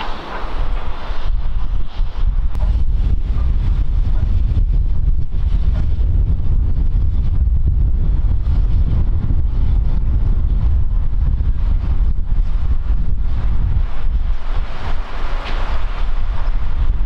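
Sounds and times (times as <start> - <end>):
steam locomotive running slowly: 0.0 - 17.0
wind buffeting microphone: 0.0 - 17.0.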